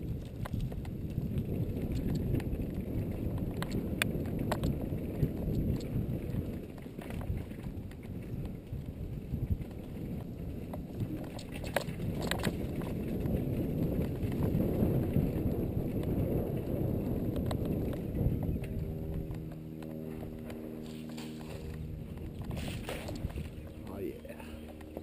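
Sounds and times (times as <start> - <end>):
bike rattling over bumps: 0.0 - 25.0
wind and trail rumble: 0.0 - 25.0.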